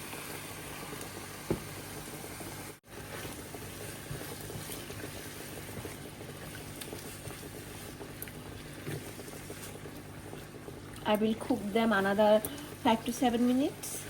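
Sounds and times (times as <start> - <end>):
food sizzling and bubbling in oil: 0.0 - 14.0.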